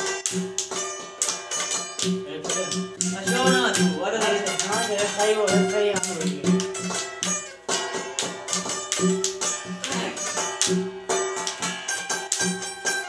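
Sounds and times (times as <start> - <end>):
hand drumming on steel basin: 0.0 - 13.0
plucked lute strumming: 0.0 - 13.0.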